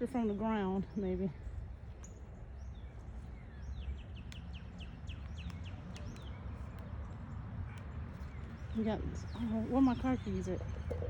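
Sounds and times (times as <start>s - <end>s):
bird chirping: 0.1s - 11.0s.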